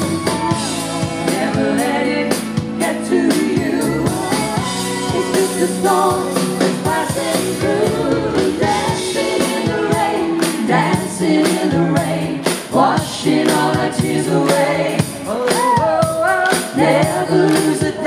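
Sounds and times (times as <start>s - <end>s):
live pop band with vocals: 0.0s - 18.0s
steady drum beat: 0.0s - 18.0s.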